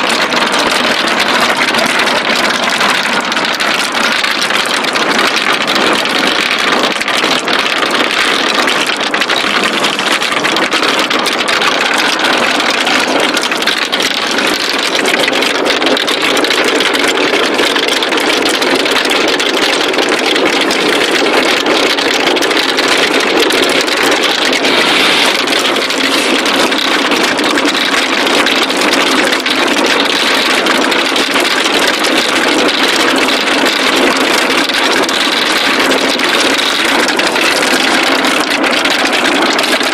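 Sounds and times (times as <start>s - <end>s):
marbles rattling down wooden slope: 0.0s - 39.9s.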